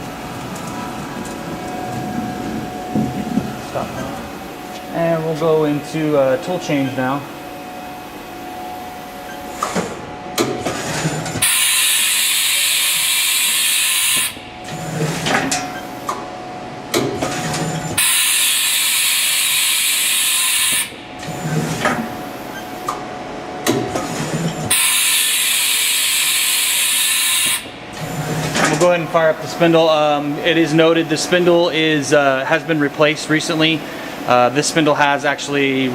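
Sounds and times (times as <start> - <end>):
tool changer clunks and whirs: 0.0 - 35.9.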